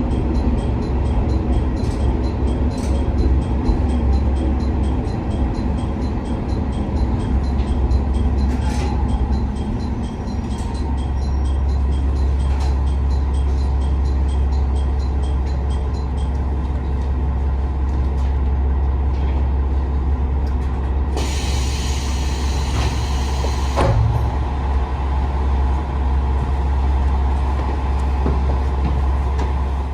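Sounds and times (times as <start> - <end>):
diesel railcar engine humming: 0.0 - 29.9.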